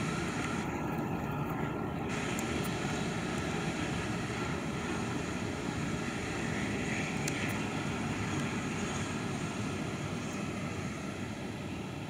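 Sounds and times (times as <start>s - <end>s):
jet engines at taxi power: 0.0s - 12.0s.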